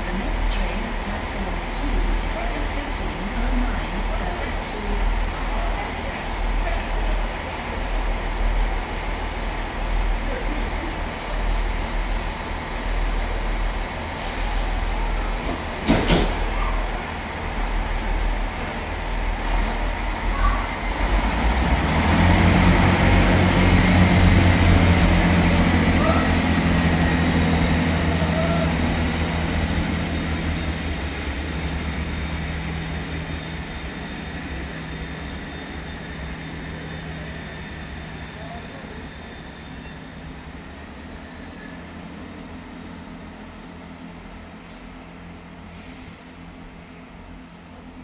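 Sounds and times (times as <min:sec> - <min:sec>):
train diesel engines: 0:00.0 - 0:48.0.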